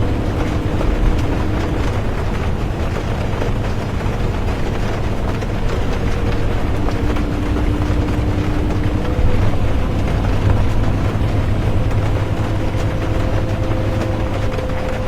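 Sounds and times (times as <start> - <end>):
bus engine and road rumble: 0.0 - 15.0
faint steady whine: 0.0 - 15.0
rain hissing: 0.0 - 15.0.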